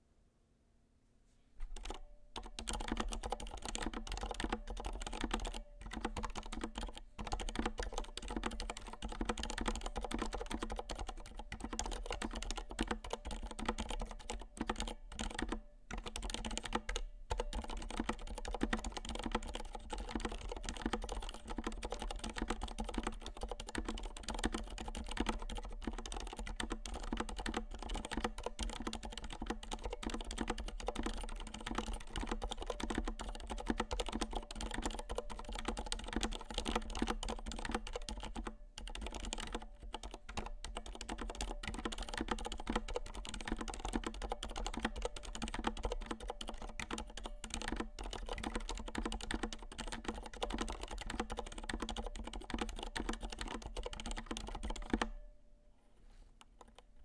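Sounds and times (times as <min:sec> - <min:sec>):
fast typing on mechanical keyboard: 0:01.6 - 0:55.2.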